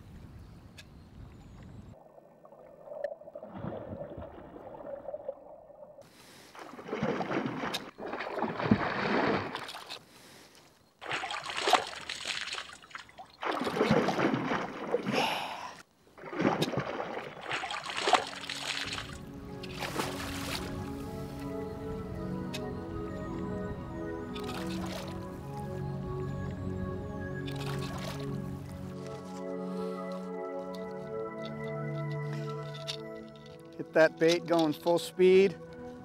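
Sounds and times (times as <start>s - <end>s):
water sloshing and splashing: 1.2s - 10.0s, 11.0s - 15.4s, 16.0s - 36.0s.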